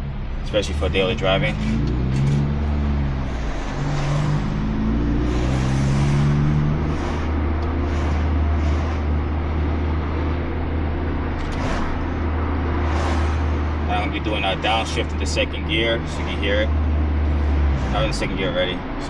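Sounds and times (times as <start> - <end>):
car engine and exhaust: 0.0 - 19.0
road and wind noise: 0.0 - 19.0.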